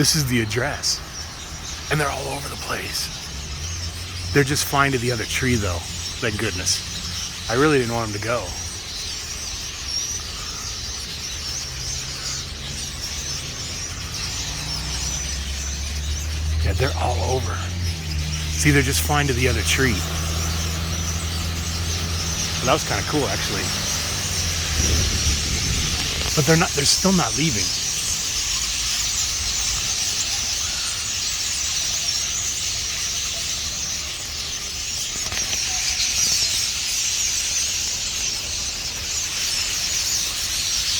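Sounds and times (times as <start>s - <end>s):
flock of birds chirping: 0.0s - 40.9s.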